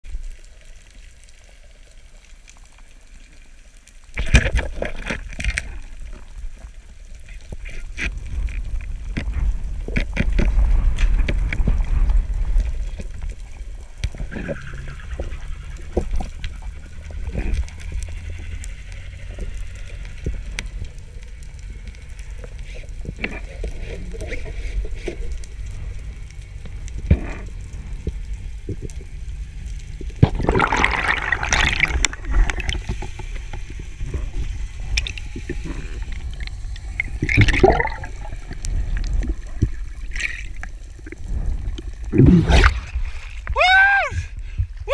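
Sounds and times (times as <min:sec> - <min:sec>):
underwater water turbulence: 0:00.1 - 0:44.9.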